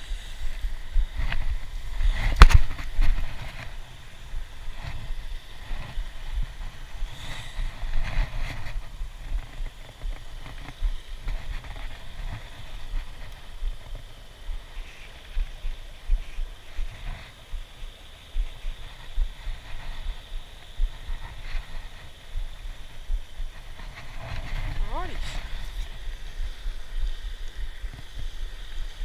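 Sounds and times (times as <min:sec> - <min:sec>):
low wind rumble: 0:00.0 - 0:29.0.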